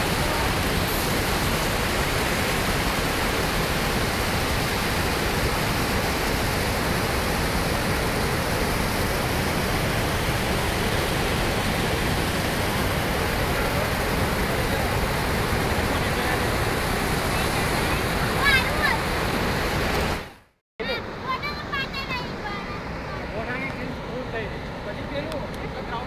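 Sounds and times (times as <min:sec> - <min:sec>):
water rushing over dam spillway: 0:00.0 - 0:26.0.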